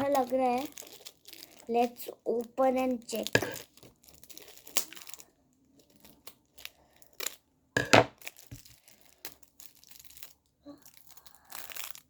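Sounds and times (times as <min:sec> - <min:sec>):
packaging tearing and crinkling: 0:00.0 - 0:07.4, 0:08.1 - 0:12.0.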